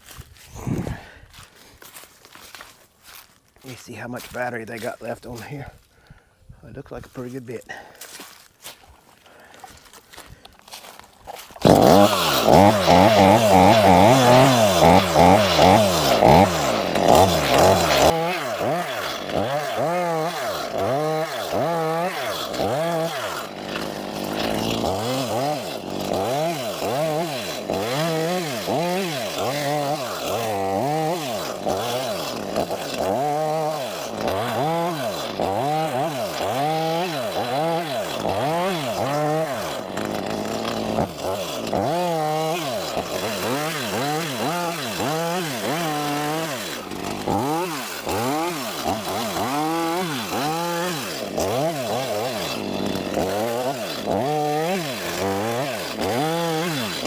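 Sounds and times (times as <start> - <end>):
chainsaw cutting wood: 0.0 - 2.9, 3.6 - 5.7, 7.1 - 57.0.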